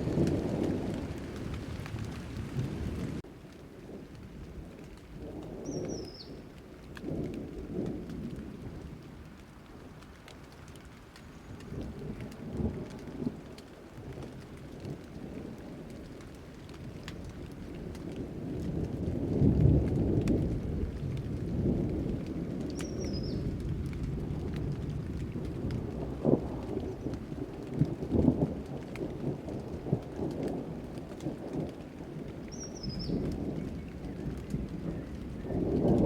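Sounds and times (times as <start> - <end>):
thunder rolling: 0.0 - 9.1, 11.6 - 36.0
steady rain: 0.0 - 36.0.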